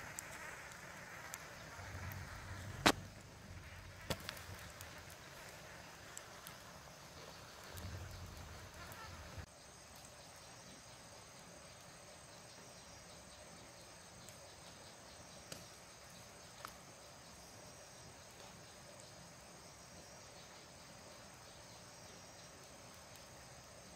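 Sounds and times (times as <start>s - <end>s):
crickets and insects chirping: 0.0s - 23.9s.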